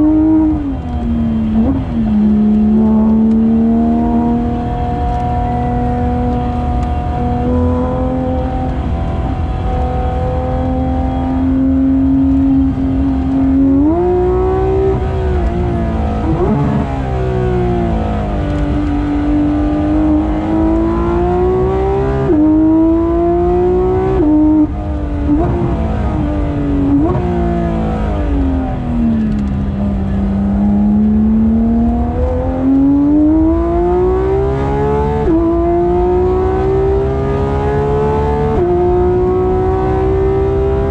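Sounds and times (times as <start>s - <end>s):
sports car engine revving: 0.0s - 40.9s.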